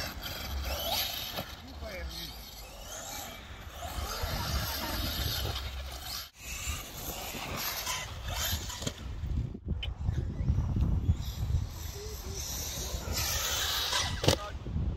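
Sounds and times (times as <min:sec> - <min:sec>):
wind buffeting microphone: 0:02.0 - 0:14.9.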